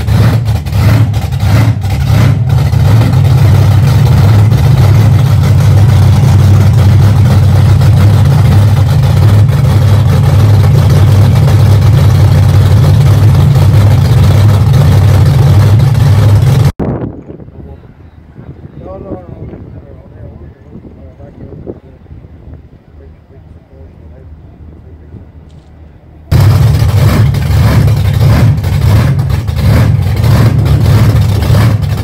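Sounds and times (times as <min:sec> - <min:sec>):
truck engine running at low revs: 0:00.0 - 0:32.0.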